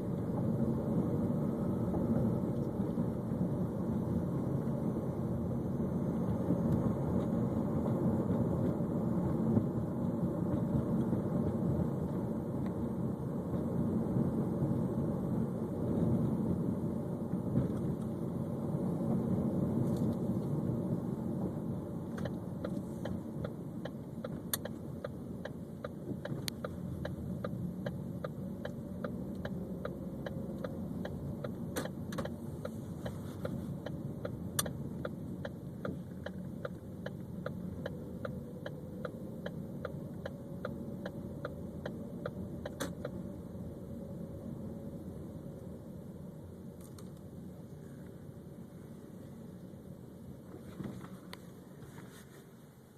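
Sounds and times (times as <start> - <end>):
car engine running: 0.0 - 51.8.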